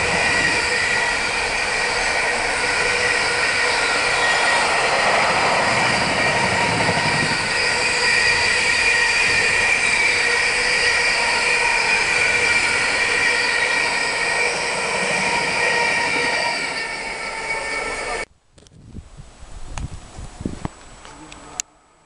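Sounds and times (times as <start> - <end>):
freight train rolling past: 0.0 - 18.3
ringing tones from train wheels: 0.0 - 18.3.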